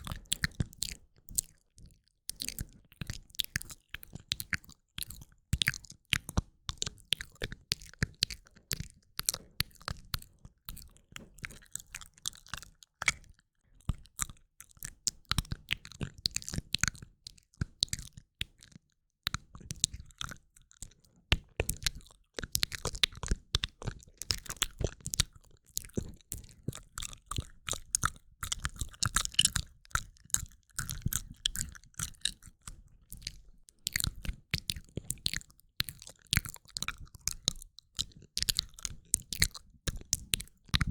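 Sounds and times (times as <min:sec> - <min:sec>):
wet mouth clicks and lip smacking: 0:00.0 - 0:01.6, 0:02.3 - 0:40.9.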